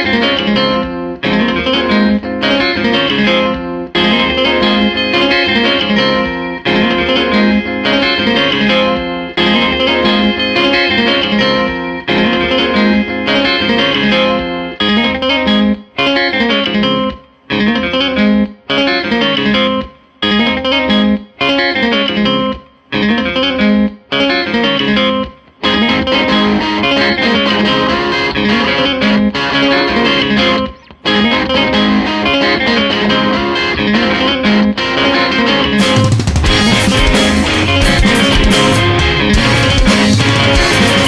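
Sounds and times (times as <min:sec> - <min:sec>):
guitar-led background music: 0:00.0 - 0:41.0.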